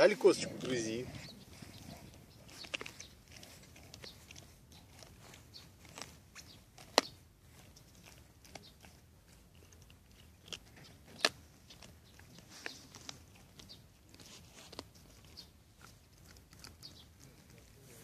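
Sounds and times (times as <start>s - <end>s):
dog gnawing a bone: 0.5s - 18.0s.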